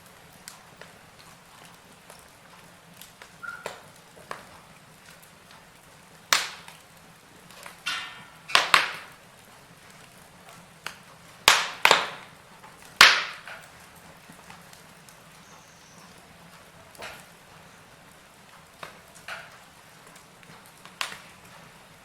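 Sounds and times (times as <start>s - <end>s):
faint steady hiss: 0.0s - 22.0s
wood fire crackling: 0.0s - 22.0s
sharp pops of fire: 0.1s - 22.0s.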